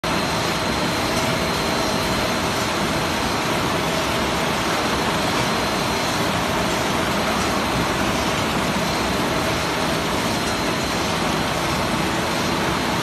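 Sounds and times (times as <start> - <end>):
conveyor chains and drive motors: 0.1 - 13.0
packaging machinery running: 0.1 - 13.0.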